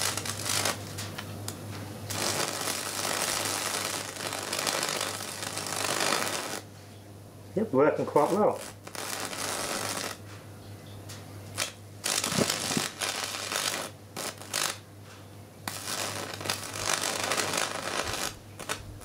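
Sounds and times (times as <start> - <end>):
electric arc crackling and buzzing: 0.0 - 6.7, 7.6 - 10.3, 11.4 - 14.9, 15.6 - 19.0
steady low hum: 0.0 - 19.0.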